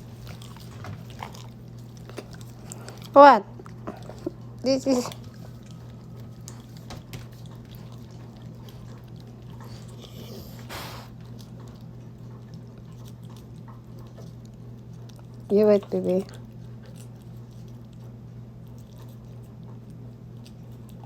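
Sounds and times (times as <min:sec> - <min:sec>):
pet licking and chewing: 0:00.0 - 0:21.0.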